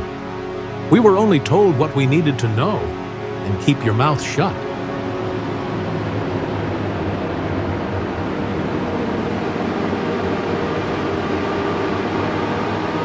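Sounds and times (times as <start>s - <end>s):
propeller plane engine drone: 1.6s - 13.0s.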